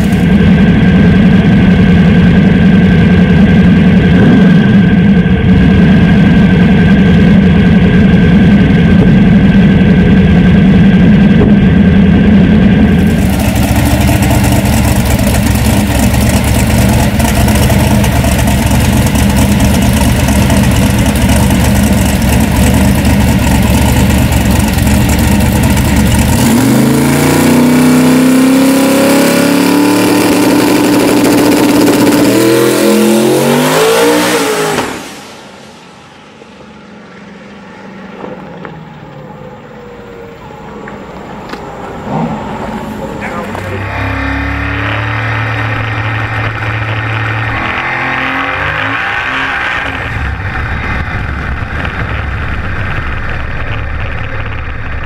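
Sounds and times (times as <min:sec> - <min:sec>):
pickup truck engine revving: 0:00.0 - 0:55.0.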